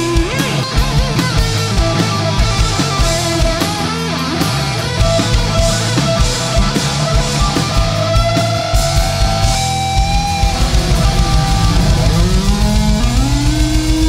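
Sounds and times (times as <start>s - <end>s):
hard rock band playing: 0.0s - 14.0s.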